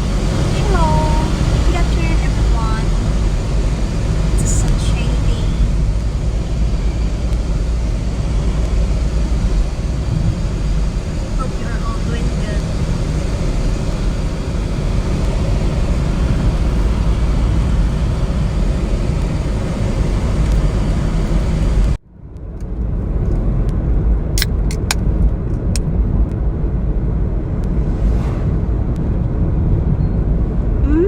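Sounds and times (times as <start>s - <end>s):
road and engine rumble: 0.0s - 31.0s.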